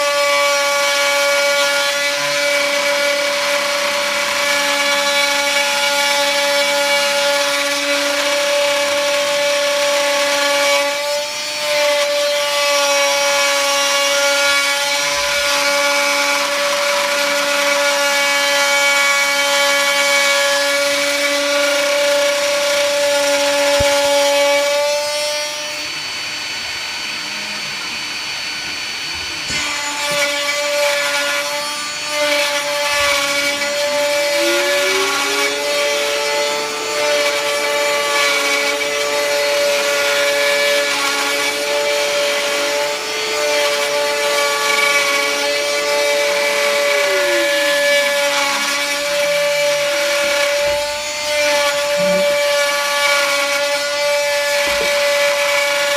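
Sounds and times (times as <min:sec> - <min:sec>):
cutter rasping on wood: 0:00.0 - 0:26.0, 0:26.9 - 0:55.9
router spindle high whine: 0:00.0 - 0:55.9.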